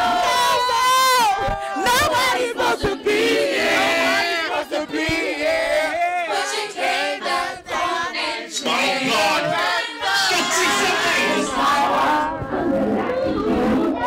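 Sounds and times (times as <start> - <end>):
crowd singing along: 0.0 - 14.0.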